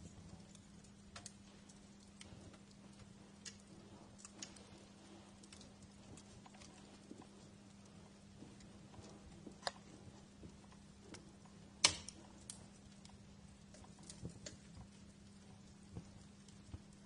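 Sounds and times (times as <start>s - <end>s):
faint steady hum: 0.0s - 17.0s
wood fire crackling: 0.0s - 17.0s.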